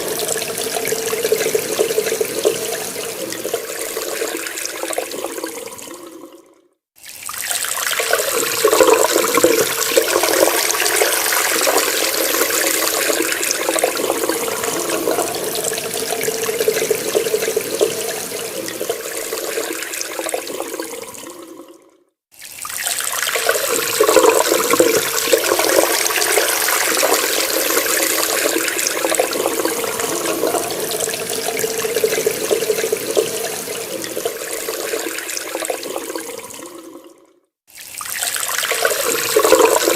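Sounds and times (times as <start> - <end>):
tap water running and splashing: 0.0 - 6.3, 7.0 - 21.7, 22.3 - 39.9.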